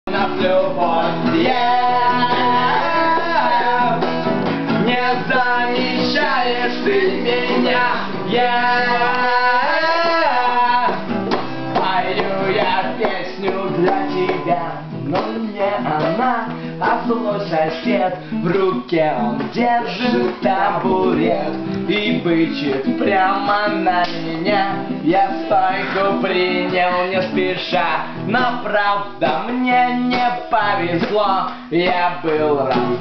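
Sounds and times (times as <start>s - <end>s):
acoustic guitar strumming: 0.1s - 33.0s
person singing: 0.1s - 33.0s.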